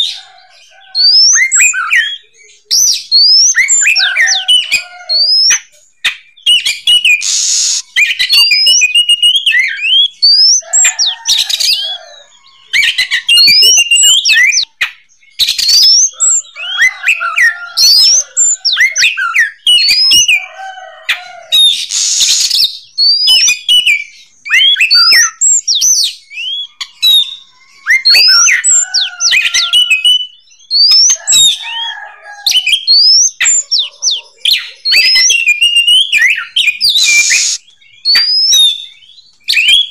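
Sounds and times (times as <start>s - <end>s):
harsh rasping bird calls: 0.0s - 39.9s
bird singing whistled notes: 0.9s - 20.5s, 21.6s - 31.7s, 32.5s - 39.9s.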